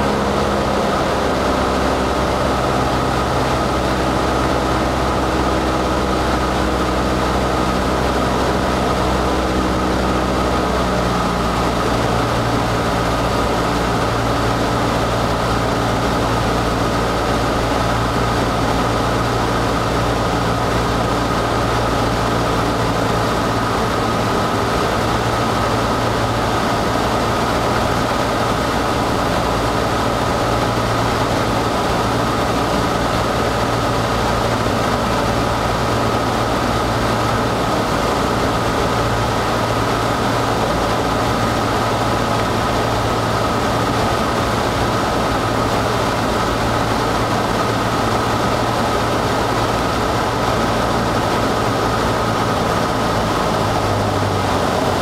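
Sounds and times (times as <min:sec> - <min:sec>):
aircraft engine and propeller: 0:00.0 - 0:55.0.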